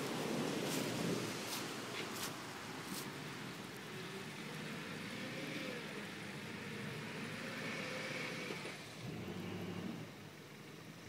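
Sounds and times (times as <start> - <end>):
off-road vehicle engines revving: 0.0 - 11.0.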